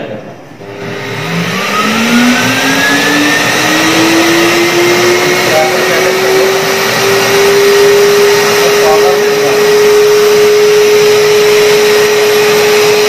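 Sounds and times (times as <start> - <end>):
vacuum cleaner motor whining: 0.6 - 13.0.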